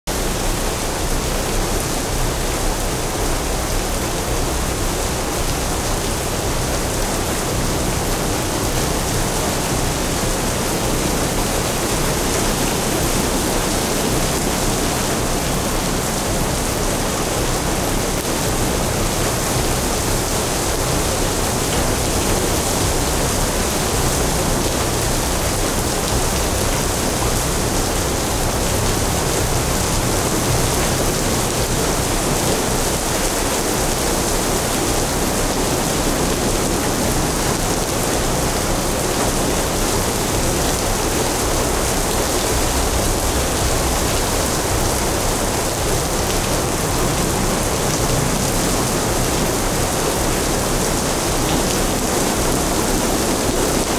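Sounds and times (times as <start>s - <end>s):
steady rain: 0.1s - 53.9s.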